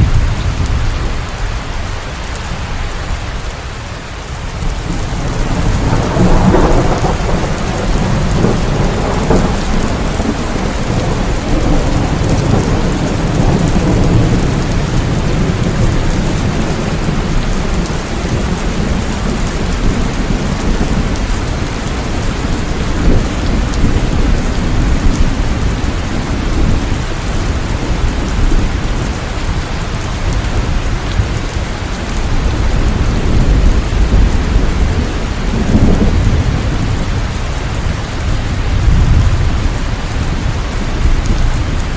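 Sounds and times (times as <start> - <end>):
heavy rain: 0.0 - 41.9
thunder rumbling: 0.0 - 41.9.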